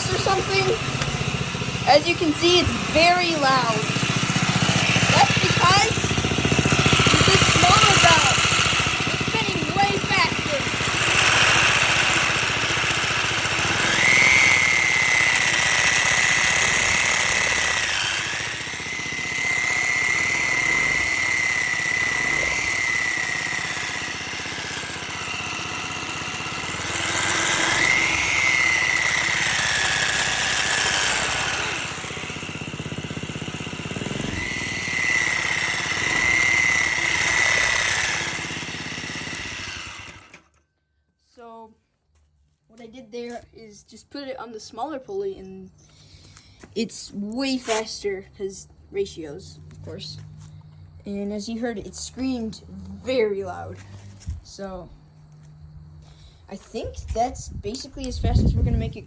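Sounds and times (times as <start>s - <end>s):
mini bike engine revving: 0.0s - 40.6s, 43.2s - 59.0s.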